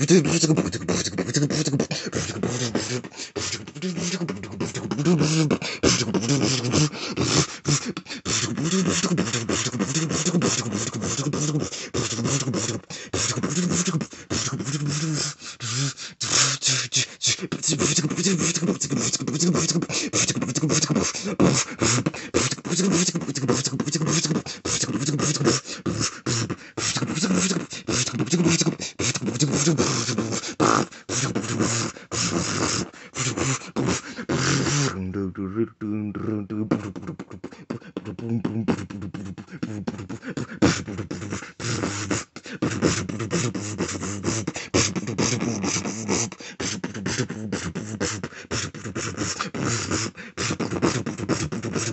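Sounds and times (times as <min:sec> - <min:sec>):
beatboxing: 0:00.0 - 0:51.9.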